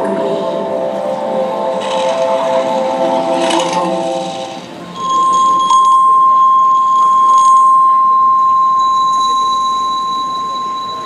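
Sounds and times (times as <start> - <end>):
chord of lower tones: 0.0 - 11.0
fainter higher tone: 0.0 - 11.0
pure electronic tone: 0.0 - 11.0.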